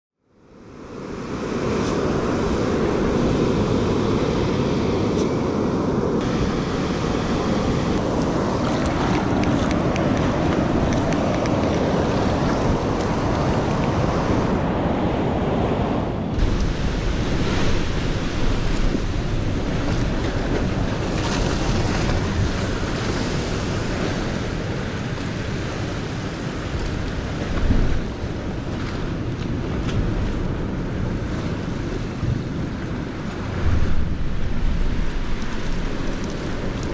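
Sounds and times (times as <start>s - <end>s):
ocean surf: 0.4s - 36.9s
wind rumbling on microphone: 0.4s - 36.9s.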